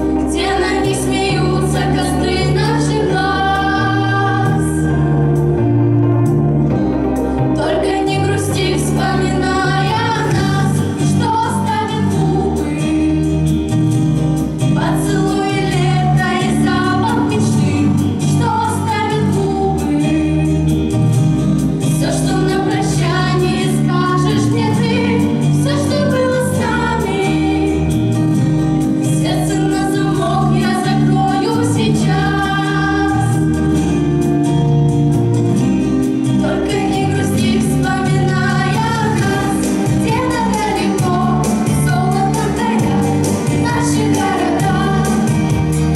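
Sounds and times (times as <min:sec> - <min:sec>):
group of voices singing: 0:00.0 - 0:05.3, 0:07.5 - 0:13.5, 0:14.8 - 0:20.8, 0:21.9 - 0:28.2, 0:28.9 - 0:34.3, 0:36.3 - 0:45.9
instrumental accompaniment: 0:00.0 - 0:45.9.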